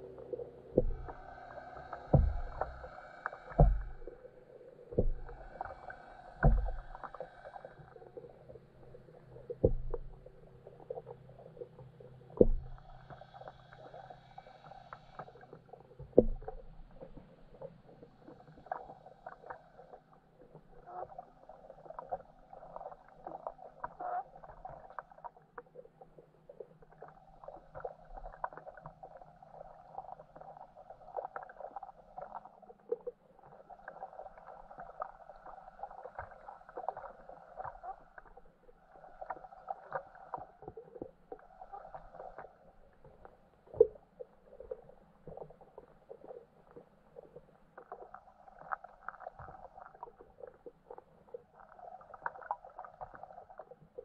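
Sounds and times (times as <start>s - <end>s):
muffled underwater crackling: 0.0s - 54.0s.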